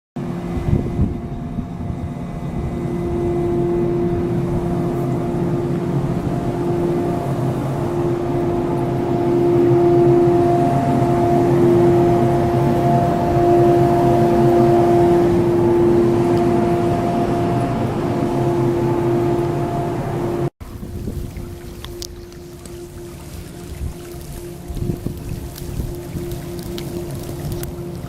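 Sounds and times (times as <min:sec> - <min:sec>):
train running with humming rumble: 0:00.2 - 0:28.0.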